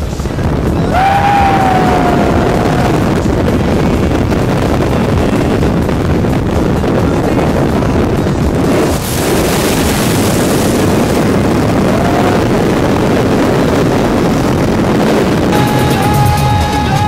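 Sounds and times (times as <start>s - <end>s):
biplane engine running: 0.0s - 17.0s
wind rush on microphone: 0.0s - 17.0s.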